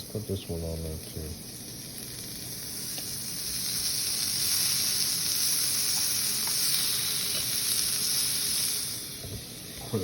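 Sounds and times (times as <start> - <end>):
beef sizzling on hot surface: 0.0 - 10.0.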